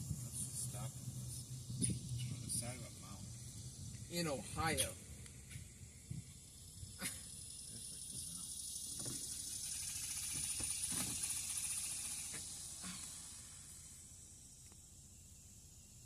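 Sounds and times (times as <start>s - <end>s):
high-pitched insect buzzing: 0.0s - 16.0s.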